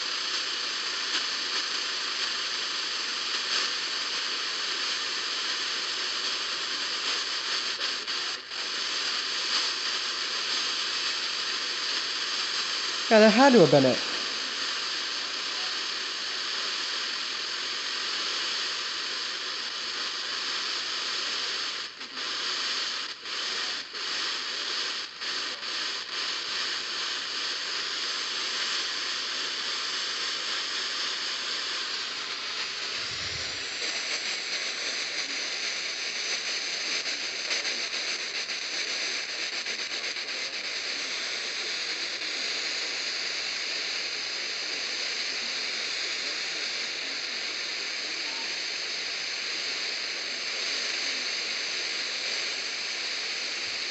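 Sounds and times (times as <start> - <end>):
radio static hiss: 0.0 - 53.9.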